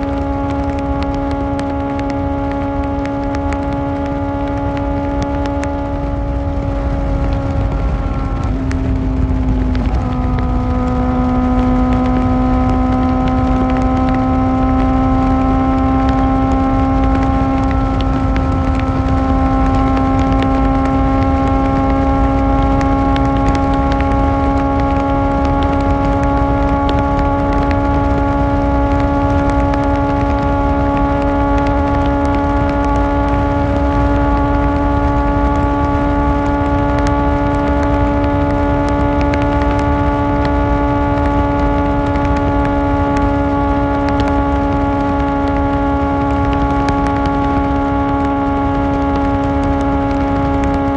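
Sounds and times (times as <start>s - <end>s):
light ticks: 0.0s - 50.9s
motorcycle engine running steadily: 0.0s - 50.9s.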